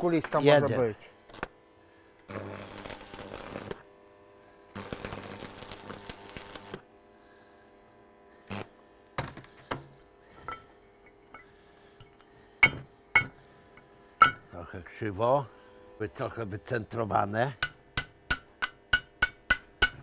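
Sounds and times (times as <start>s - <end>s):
arc welder crackling hiss: 0.0s - 20.0s
low steady hum: 0.0s - 20.0s.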